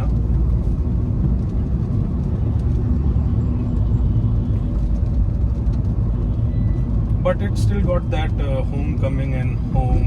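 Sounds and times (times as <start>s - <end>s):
diesel car engine: 0.0s - 10.0s
road and tyre noise: 0.0s - 10.0s.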